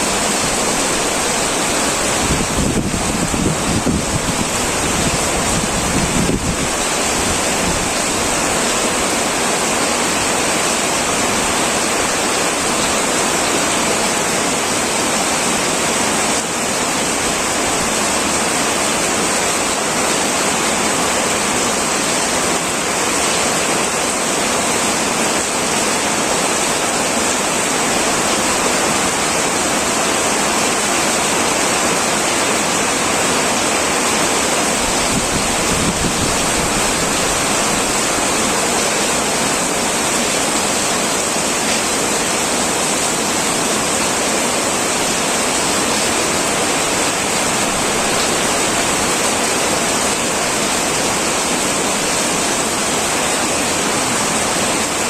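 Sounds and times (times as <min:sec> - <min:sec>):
heavy rain on a tin roof: 0:00.0 - 0:55.0.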